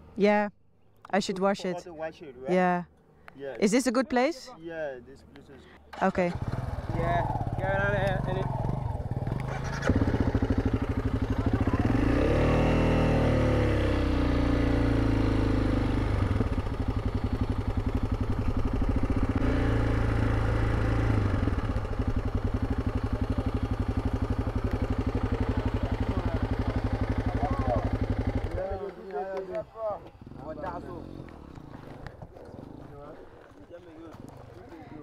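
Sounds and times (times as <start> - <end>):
motorcycle engine revving: 6.1 - 34.7.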